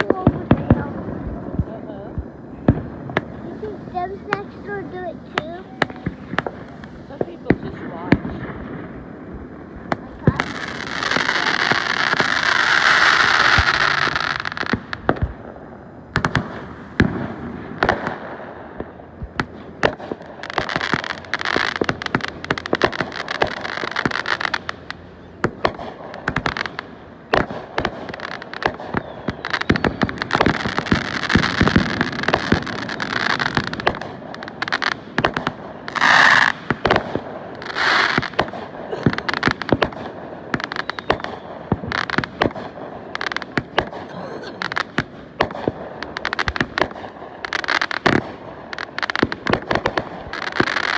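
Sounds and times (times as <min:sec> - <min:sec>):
fireworks bangs and pops: 0:00.0 - 0:50.9
fireworks hissing and crackling: 0:00.0 - 0:50.9.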